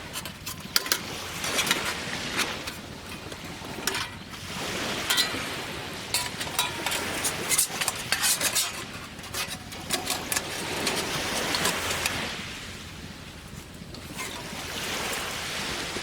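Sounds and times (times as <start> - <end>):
surf washing: 0.0 - 16.0.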